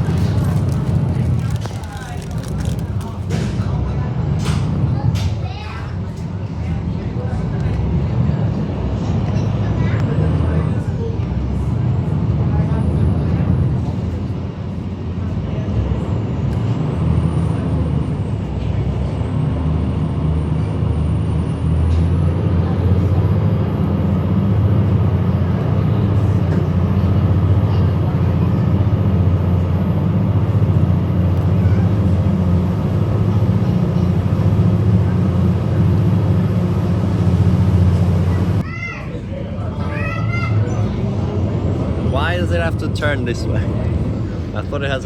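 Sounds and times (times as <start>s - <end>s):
ferry engines droning: 0.0s - 45.0s.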